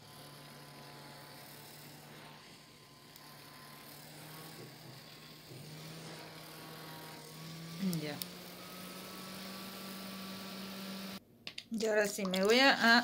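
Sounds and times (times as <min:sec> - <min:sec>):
handheld fan motor humming: 0:00.0 - 0:11.2.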